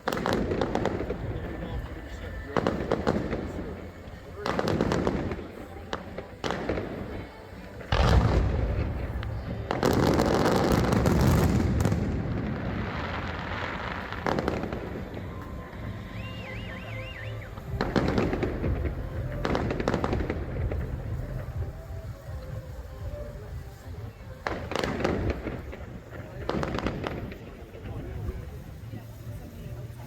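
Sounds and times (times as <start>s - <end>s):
fireworks booming: 0.0s - 30.0s
fireworks crackling: 0.0s - 30.0s.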